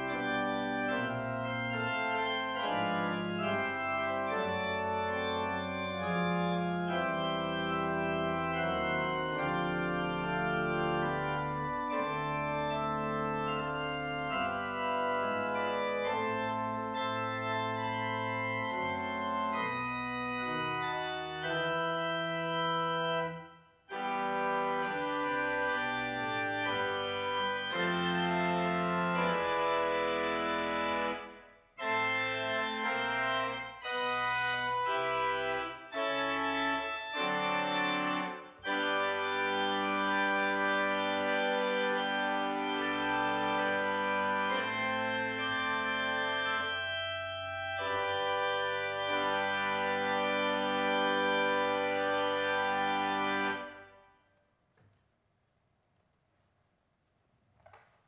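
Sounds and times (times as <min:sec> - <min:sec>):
organ music: 0:00.0 - 0:54.2.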